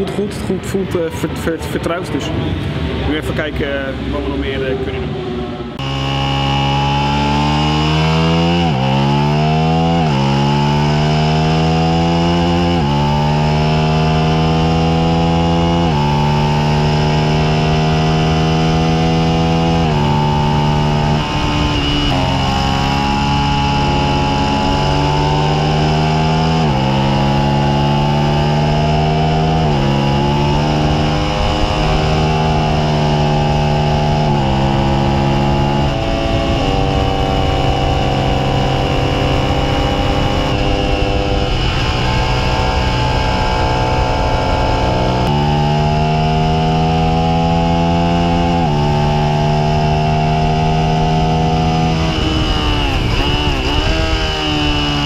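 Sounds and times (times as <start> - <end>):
motorcycle engine shifting gears: 5.8 - 55.0.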